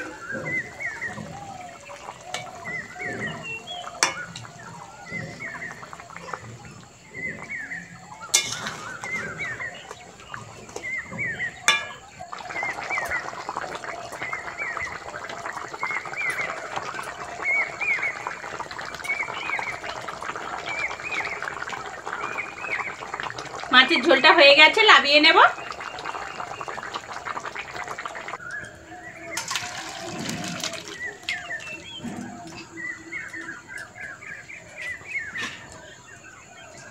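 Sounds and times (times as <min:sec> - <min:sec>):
curry bubbling in a pan: 0:00.0 - 0:36.9.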